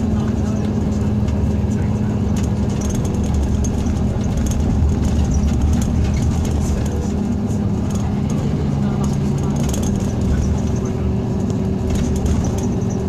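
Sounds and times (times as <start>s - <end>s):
coach engine low drone: 0.0s - 13.0s
light clicks and rattles: 0.2s - 13.0s.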